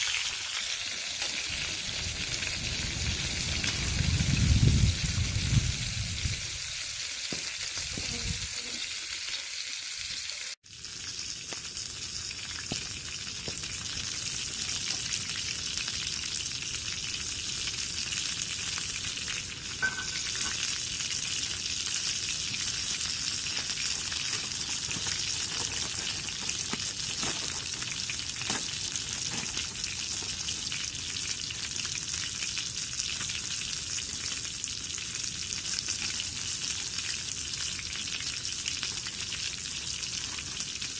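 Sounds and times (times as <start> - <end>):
meat sizzling in a pan: 0.0 - 40.9.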